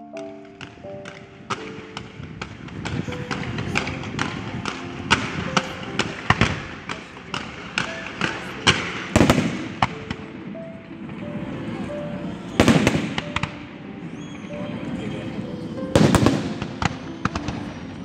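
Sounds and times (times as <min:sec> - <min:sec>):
music playing: 0:00.0 - 0:18.0
fireworks bangs: 0:00.2 - 0:18.0.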